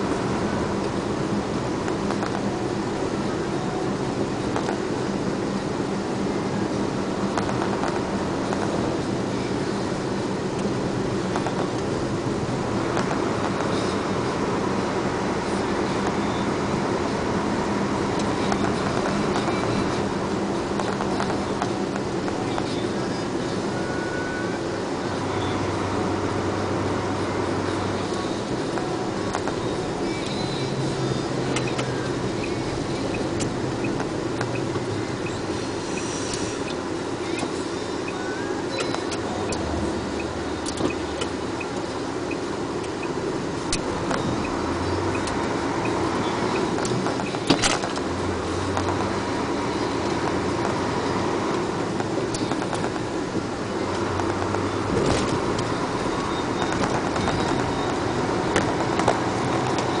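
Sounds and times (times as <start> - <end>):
road noise: 0.0 - 60.0
truck engine hum: 0.0 - 60.0.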